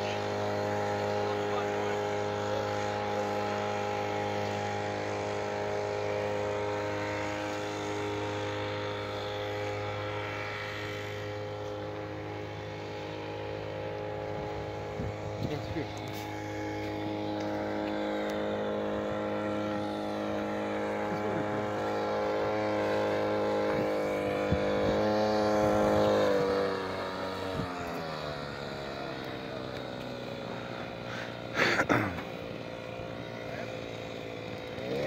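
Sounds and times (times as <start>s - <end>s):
small petrol engine running: 0.0s - 35.0s.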